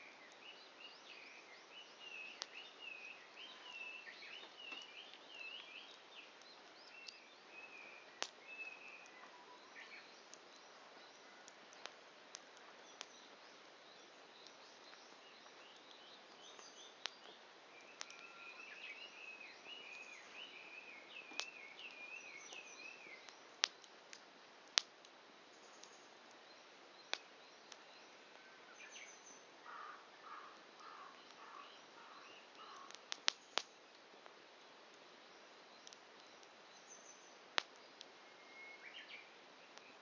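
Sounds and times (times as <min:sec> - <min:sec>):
faint high bird chirps: 0:00.0 - 0:11.9, 0:12.6 - 0:23.5, 0:25.5 - 0:33.7, 0:35.4 - 0:40.0
faint steady hiss: 0:00.0 - 0:40.0
campfire popping and crackling: 0:01.6 - 0:03.4, 0:04.1 - 0:18.3, 0:18.9 - 0:38.4, 0:39.3 - 0:40.0.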